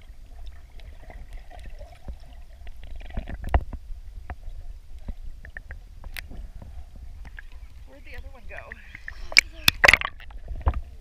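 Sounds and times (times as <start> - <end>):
muffled underwater rumble: 0.0 - 11.0.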